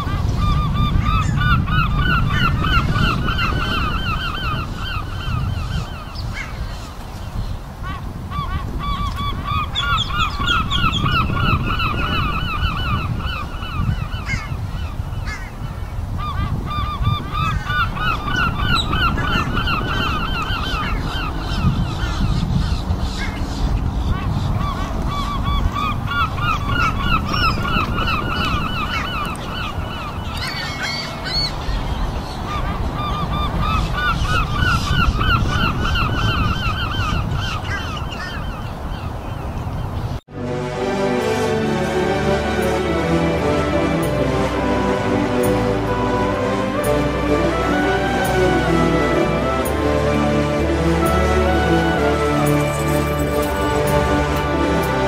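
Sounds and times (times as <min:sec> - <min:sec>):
gulls calling: 0:00.0 - 0:55.0.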